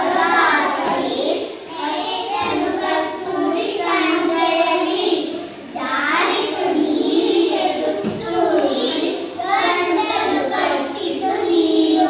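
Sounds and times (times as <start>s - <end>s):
children singing in unison: 0.0s - 12.0s.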